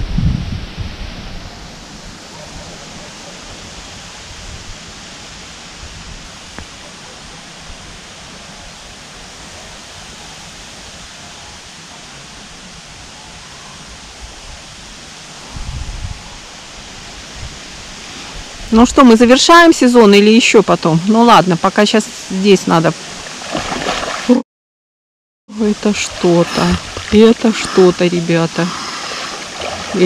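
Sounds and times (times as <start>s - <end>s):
wind rustling through leaves: 0.0s - 24.4s, 25.5s - 30.0s.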